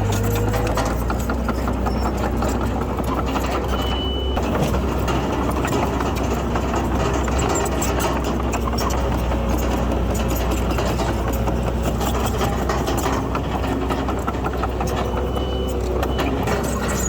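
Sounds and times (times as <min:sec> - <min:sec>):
bulldozer diesel engine drone: 0:00.0 - 0:17.0
metallic clatter: 0:00.0 - 0:17.0.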